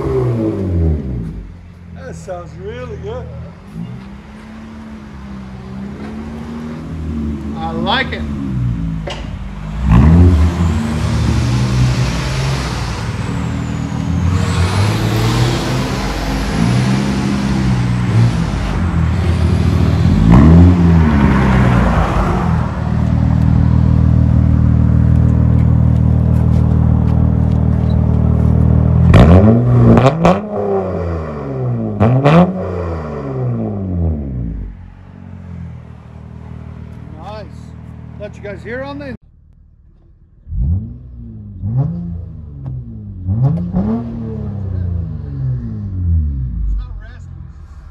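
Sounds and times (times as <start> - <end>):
car engine revving: 3.3 - 47.9.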